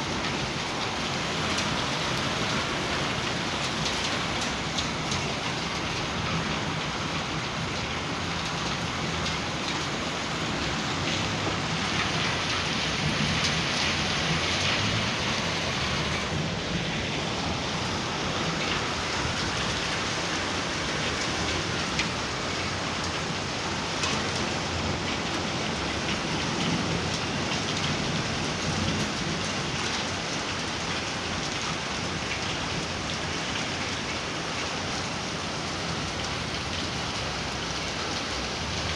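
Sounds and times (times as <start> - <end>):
heavy rain with hail: 0.0 - 38.9.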